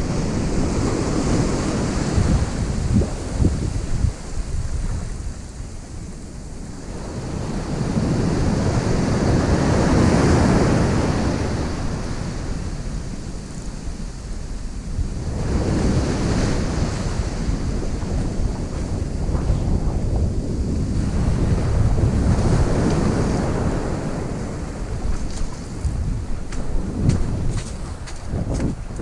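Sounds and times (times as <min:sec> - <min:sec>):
ocean surf breaking: 0:00.0 - 0:29.0
wind rumbling on microphone: 0:00.0 - 0:29.0.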